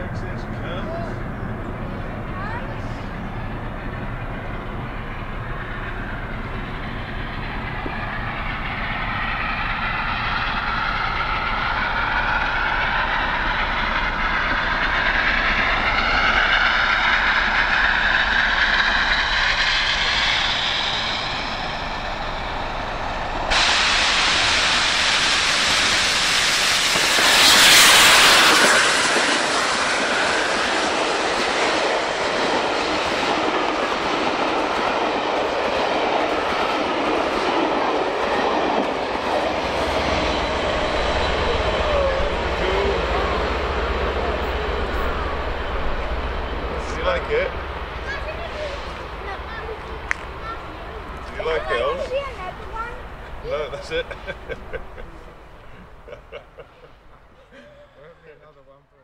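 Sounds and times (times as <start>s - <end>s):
steam locomotive passing: 0.0s - 59.0s.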